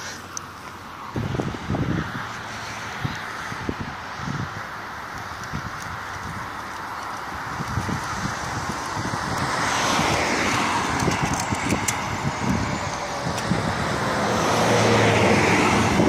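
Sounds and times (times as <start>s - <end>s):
cars passing on road: 0.0s - 16.0s.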